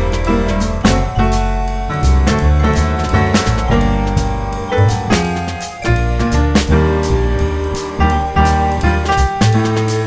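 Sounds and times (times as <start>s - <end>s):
guitar: 0.0s - 10.0s
instrumental music with steady beat: 0.0s - 10.0s
piano: 0.0s - 10.0s.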